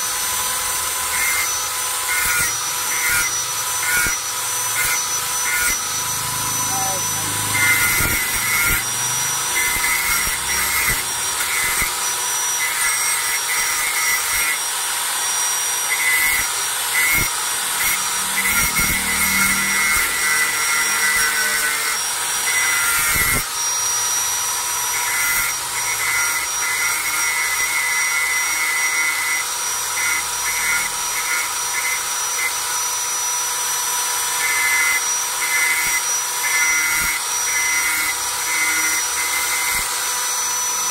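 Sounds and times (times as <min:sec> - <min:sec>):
angle grinder grinding steel: 0:00.0 - 0:40.9.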